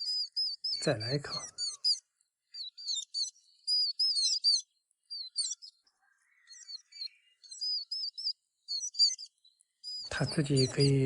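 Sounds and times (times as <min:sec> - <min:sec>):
young songbirds begging calls: 0:00.0 - 0:11.0.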